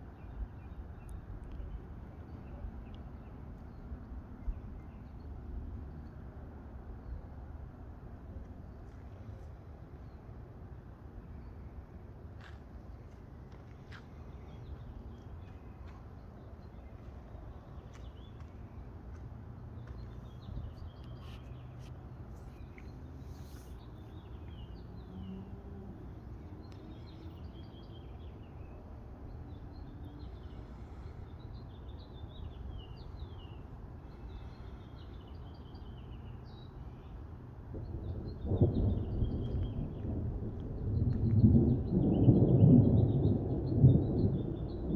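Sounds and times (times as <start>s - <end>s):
low outdoor rumble: 0.0s - 44.9s.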